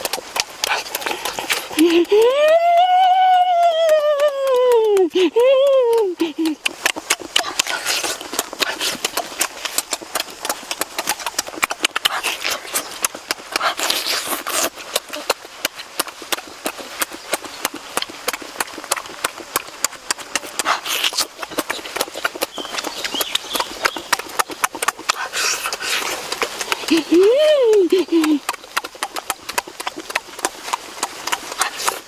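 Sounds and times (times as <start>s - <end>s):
wet lip-smacking and chewing: 0.0s - 32.0s.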